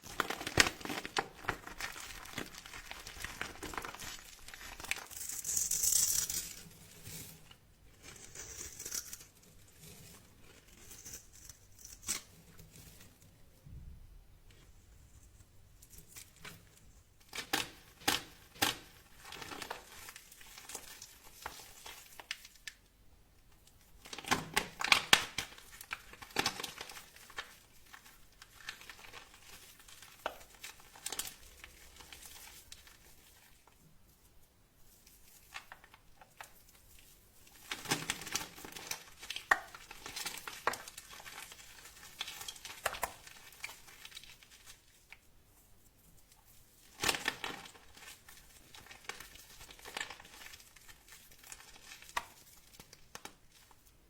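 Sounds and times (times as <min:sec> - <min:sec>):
dry soap crunching and crackling: 0:00.0 - 0:13.3, 0:14.5 - 0:22.8, 0:23.6 - 0:54.0.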